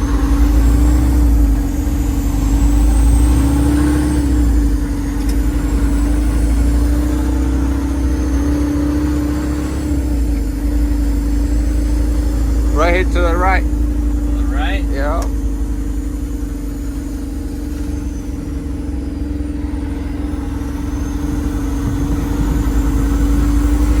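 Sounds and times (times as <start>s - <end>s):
road rumble: 0.0s - 24.0s
vehicle engine running: 0.0s - 24.0s.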